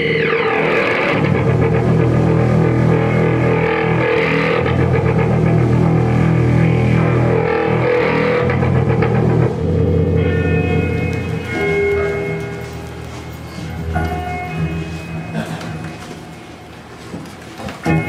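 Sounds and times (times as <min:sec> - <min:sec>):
low hum: 0:00.0 - 0:15.3
distorted drones: 0:00.0 - 0:17.0.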